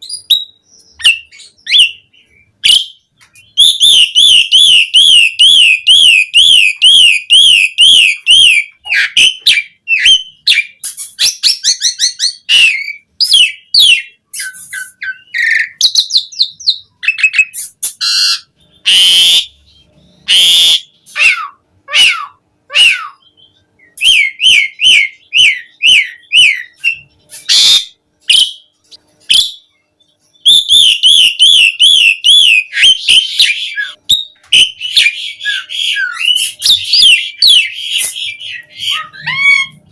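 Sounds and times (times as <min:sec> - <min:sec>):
harsh scratchy bird calls: 0:00.0 - 0:39.9
starling singing warbling trills: 0:00.0 - 0:39.9.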